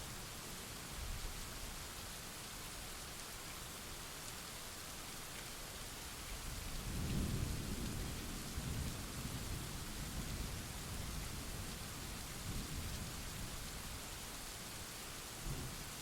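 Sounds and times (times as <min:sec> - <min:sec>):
steady rain hissing: 0:00.0 - 0:16.0.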